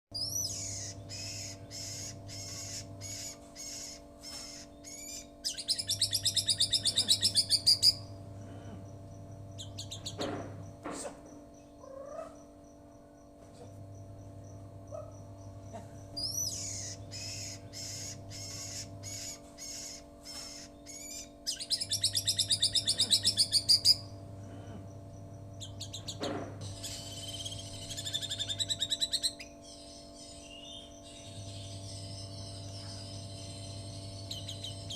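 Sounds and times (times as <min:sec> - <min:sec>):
bird singing: 0:00.1 - 0:34.9
steady low hum: 0:00.1 - 0:34.9.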